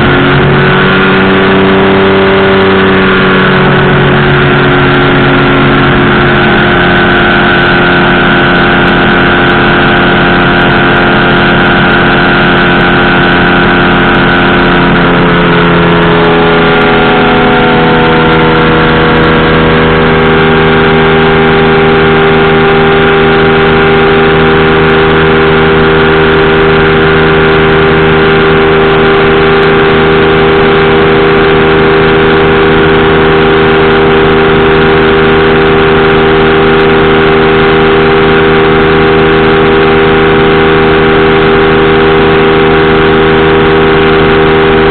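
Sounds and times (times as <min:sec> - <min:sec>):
engine and propeller running: 0:00.0 - 0:44.9.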